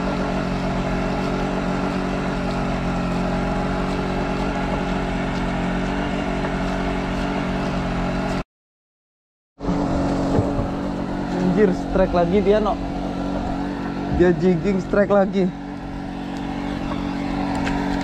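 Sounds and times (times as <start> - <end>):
generator humming: 0.0 - 8.4, 9.6 - 18.0.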